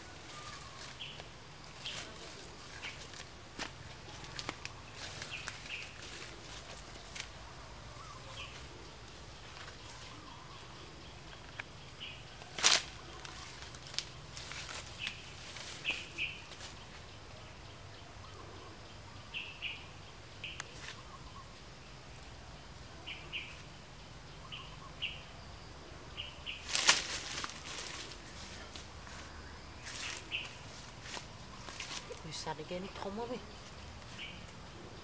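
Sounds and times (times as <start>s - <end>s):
leaves rustling: 0.0s - 18.5s, 19.3s - 23.9s, 26.2s - 35.0s.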